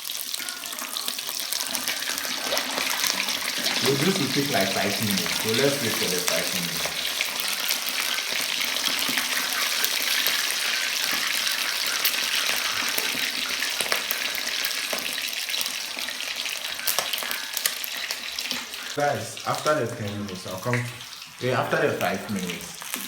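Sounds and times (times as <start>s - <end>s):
oil crackles and pops: 0.0s - 23.0s
oil sizzling while deep-frying: 0.0s - 23.0s.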